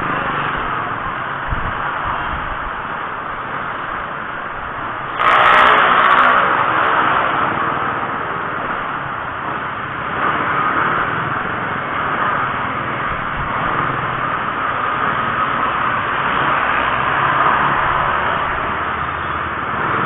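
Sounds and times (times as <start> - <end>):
low engine hum: 0.0 - 20.0
road and wind rush: 0.0 - 20.0.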